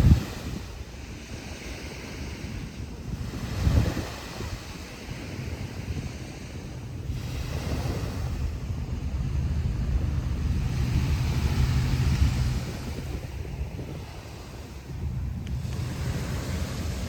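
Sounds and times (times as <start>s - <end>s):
ocean surf washing on beach: 0.0s - 17.0s
wind buffeting microphone: 0.0s - 17.0s.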